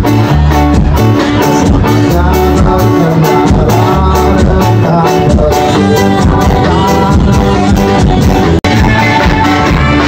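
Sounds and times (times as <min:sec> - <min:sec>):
loud band music through speakers: 0:00.0 - 0:10.0.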